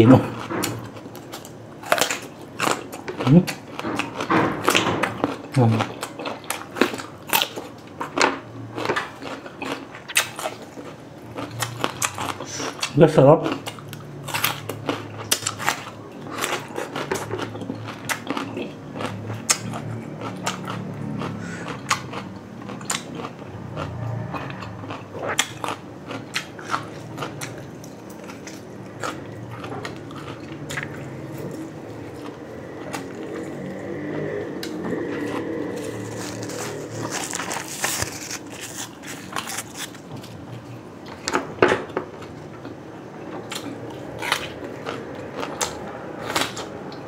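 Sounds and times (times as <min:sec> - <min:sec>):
chewing crunchy cucumber: 0:00.0 - 0:41.2, 0:42.2 - 0:47.0.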